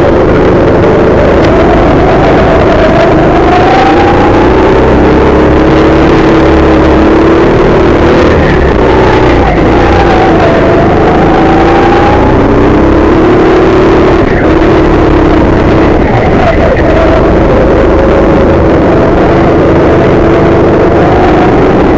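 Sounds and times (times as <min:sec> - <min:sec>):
go-kart engine running loud: 0:00.0 - 0:21.9.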